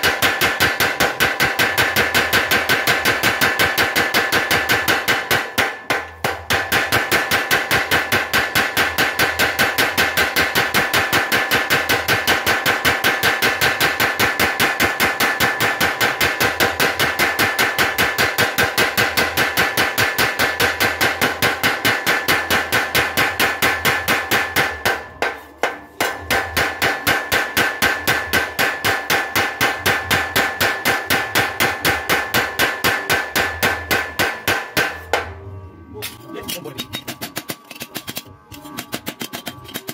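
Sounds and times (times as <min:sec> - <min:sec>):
power hammer pounding metal: 0:00.0 - 0:35.4.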